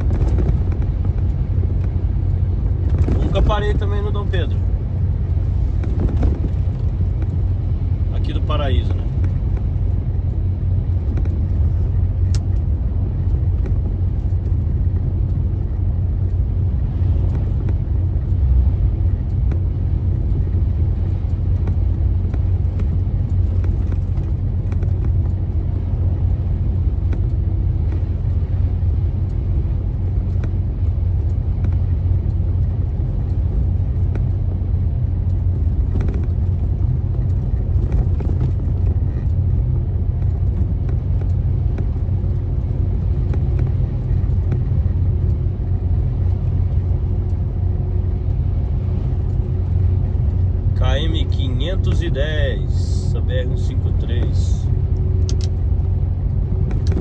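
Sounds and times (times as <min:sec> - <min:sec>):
engine and tyre rumble in cabin: 0:00.0 - 0:57.0.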